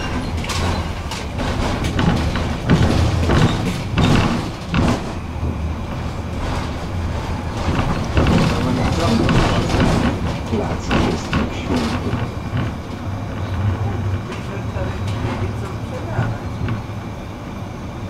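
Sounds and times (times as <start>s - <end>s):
car body rattling: 0.0s - 17.2s
wheels knocking on rails: 0.0s - 17.2s
tram running with low hum: 0.0s - 18.0s.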